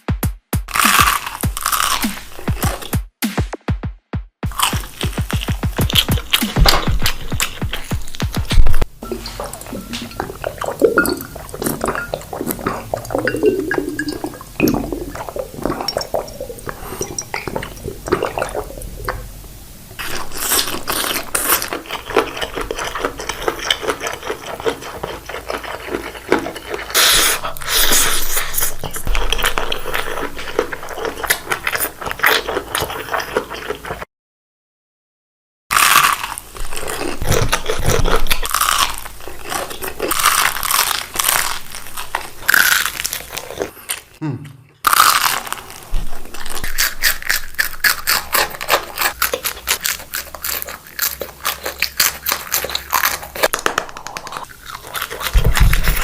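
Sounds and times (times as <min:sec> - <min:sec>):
crackling eating sounds: 0:00.7 - 0:03.0, 0:04.4 - 0:34.1, 0:35.7 - 0:56.0
wet eating sounds: 0:00.7 - 0:03.0, 0:04.4 - 0:34.1, 0:35.7 - 0:56.0.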